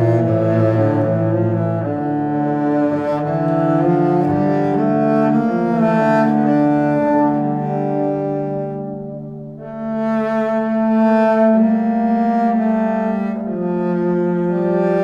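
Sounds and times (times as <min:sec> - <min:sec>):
low bowed strings music: 0:00.0 - 0:15.0.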